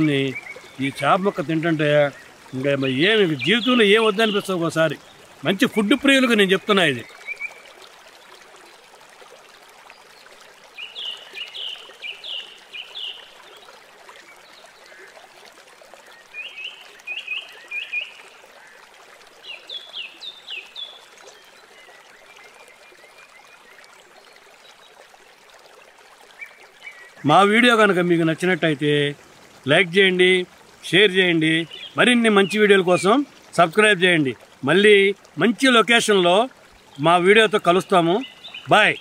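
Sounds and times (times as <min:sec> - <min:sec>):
faint open-air ambience hiss: 0:00.0 - 0:39.0.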